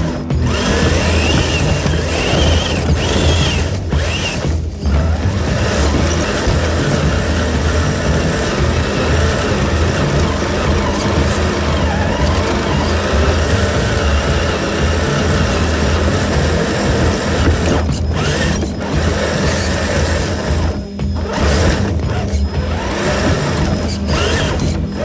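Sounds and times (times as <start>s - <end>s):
toy car motor whirring and rattling: 0.0s - 25.0s.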